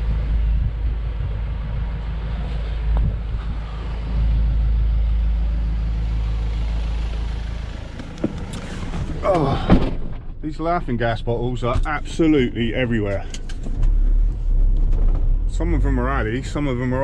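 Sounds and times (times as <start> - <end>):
van engine and road noise: 0.0 - 17.0.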